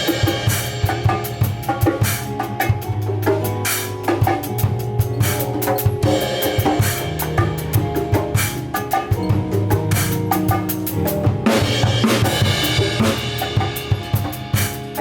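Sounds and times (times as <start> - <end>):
drum kit steady beat: 0.0 - 15.0
live band playing: 0.0 - 15.0.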